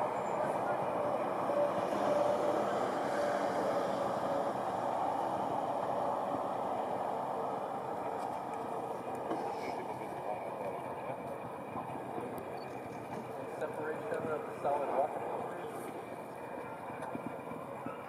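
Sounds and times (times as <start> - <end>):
distant rocket engine rumble: 0.0 - 18.0.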